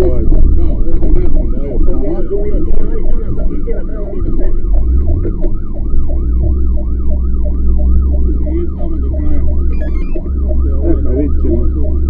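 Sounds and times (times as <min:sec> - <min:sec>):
fire truck siren yelping: 0:00.0 - 0:12.0.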